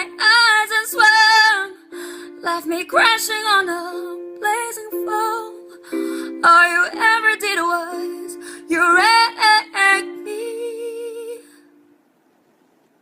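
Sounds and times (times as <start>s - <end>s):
woman singing with vibrato: 0.0s - 11.8s.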